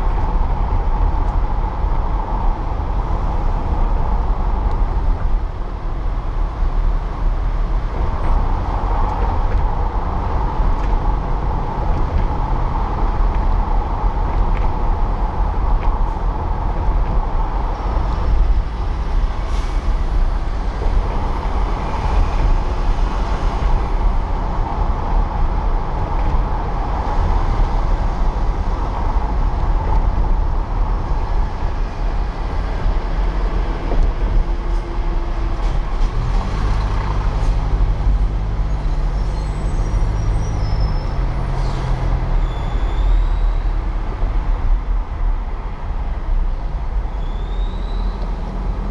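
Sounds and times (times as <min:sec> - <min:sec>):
street traffic rumble: 0:00.0 - 0:48.9.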